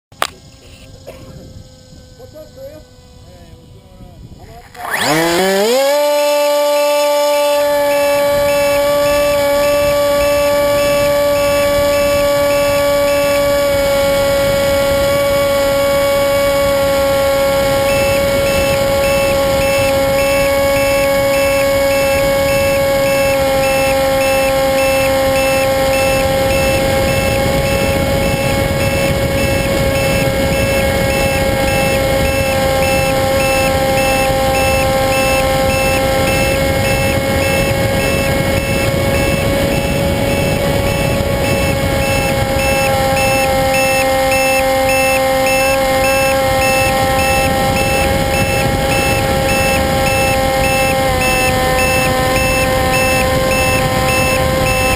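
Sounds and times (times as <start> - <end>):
model airplane motor whine: 0.1 - 54.9.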